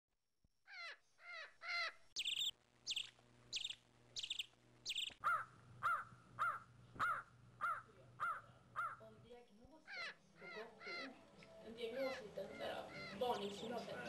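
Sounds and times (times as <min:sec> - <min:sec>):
bird calling: 0:00.7 - 0:14.0
faint steady hum: 0:01.1 - 0:14.0.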